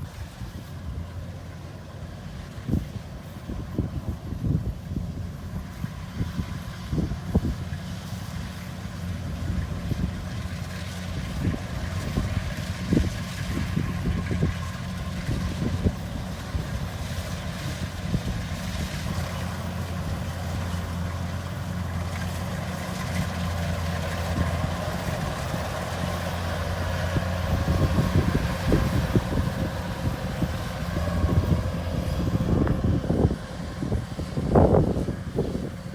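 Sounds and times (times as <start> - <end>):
harvester engine running: 0.0 - 35.9.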